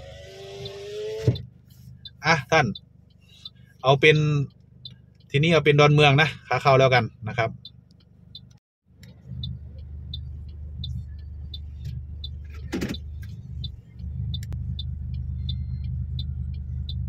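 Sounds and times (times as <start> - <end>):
car engine idling: 0.0 - 17.0
indicator relay ticking: 0.0 - 17.0.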